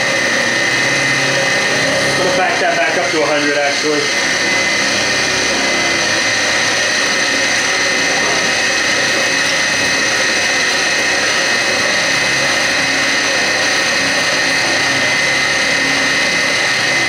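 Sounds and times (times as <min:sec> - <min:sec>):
milling machine whining: 0:00.0 - 0:17.0.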